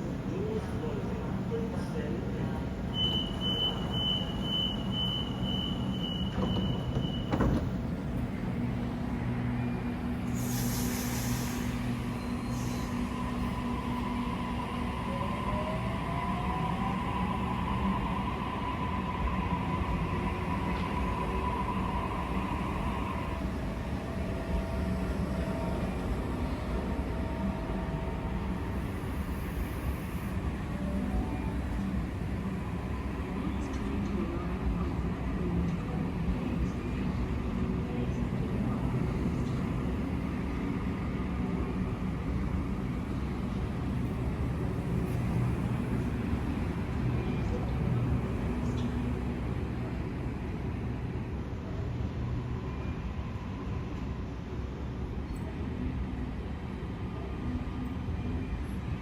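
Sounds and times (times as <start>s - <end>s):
train low steady hum: 0.0s - 59.0s.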